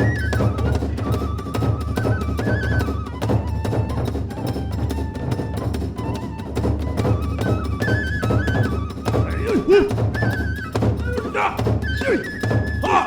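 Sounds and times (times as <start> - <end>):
bamboo flute melody: 0.0 - 13.0
rapid drumming: 0.0 - 13.0.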